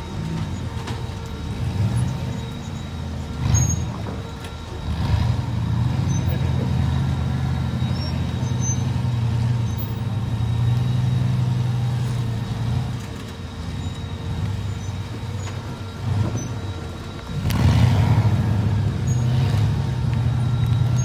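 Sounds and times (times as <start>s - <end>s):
buggy engine revving: 0.0s - 21.0s.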